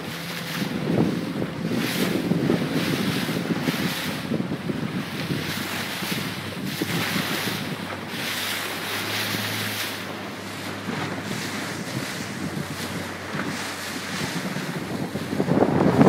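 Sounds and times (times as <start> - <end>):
breaking waves: 0.0 - 16.0
wind buffeting microphone: 0.0 - 16.0.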